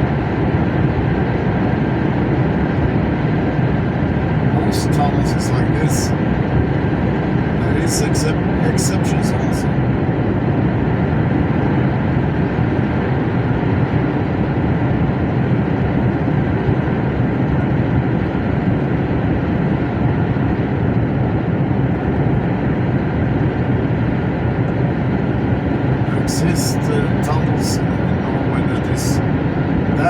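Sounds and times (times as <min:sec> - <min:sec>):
truck engine and road drone: 0:00.0 - 0:30.0.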